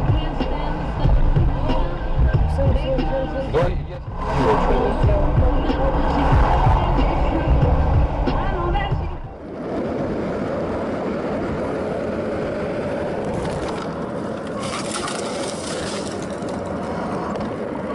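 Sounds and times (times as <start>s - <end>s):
car road noise: 0.0s - 17.9s.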